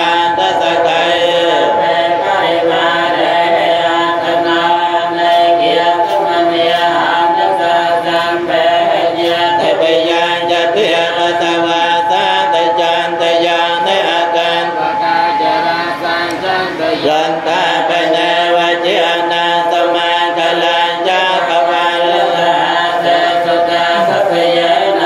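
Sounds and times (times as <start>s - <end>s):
monks chanting together: 0.0s - 25.0s.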